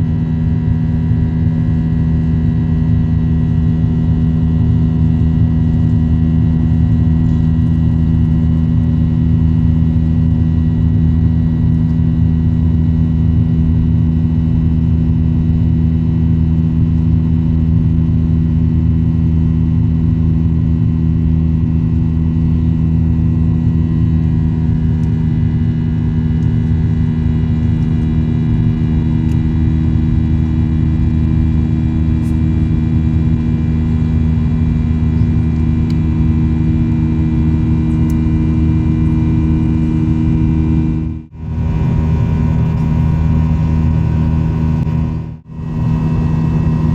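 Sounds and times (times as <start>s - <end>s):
airplane cabin engine drone: 0.0s - 46.9s.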